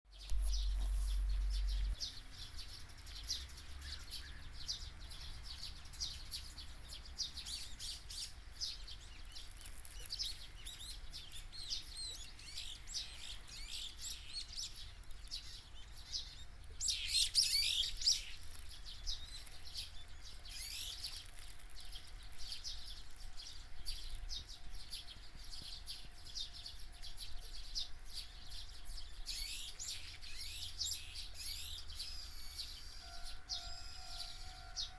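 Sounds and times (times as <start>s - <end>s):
wild birds chirping and singing: 0.1s - 34.9s.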